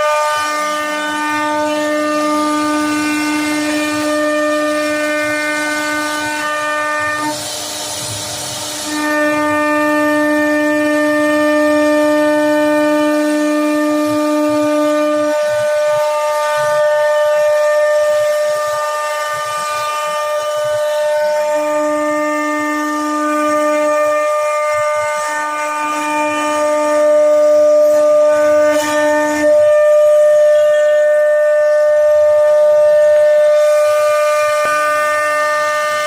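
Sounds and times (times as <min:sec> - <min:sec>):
router spindle whining: 0:00.0 - 0:36.0
wood cutting hiss: 0:00.0 - 0:36.0.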